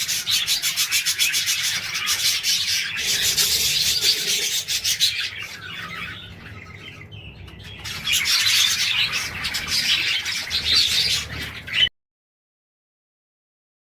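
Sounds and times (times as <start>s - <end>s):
budgerigars chattering: 0.0s - 11.9s.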